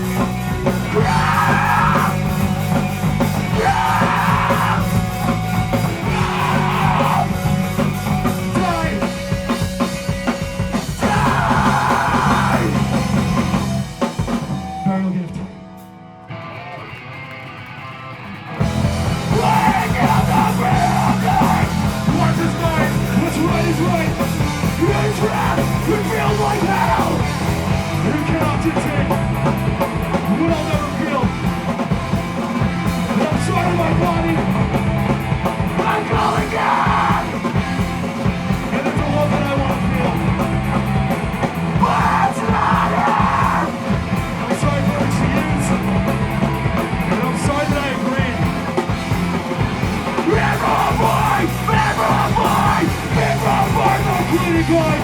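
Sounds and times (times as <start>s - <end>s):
yelled vocals: 0.0s - 14.8s, 18.6s - 55.0s
rock band playing: 0.0s - 55.0s.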